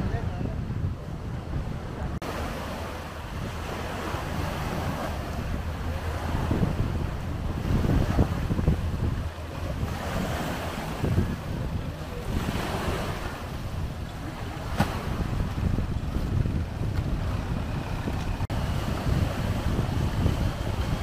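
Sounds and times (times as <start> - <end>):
sea water washing against seawall: 0.0 - 21.0
wind rumbling on microphone: 0.0 - 21.0.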